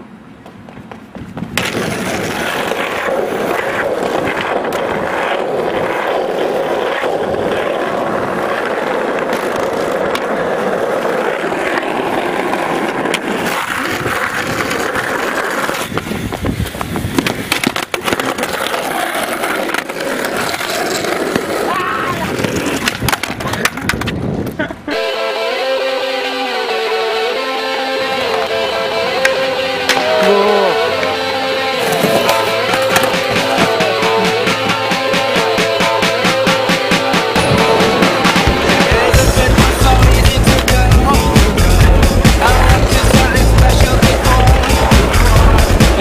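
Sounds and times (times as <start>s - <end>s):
skateboard clacks: 0.0s - 25.0s, 27.8s - 46.0s
skateboard wheels rolling on asphalt: 0.0s - 46.0s.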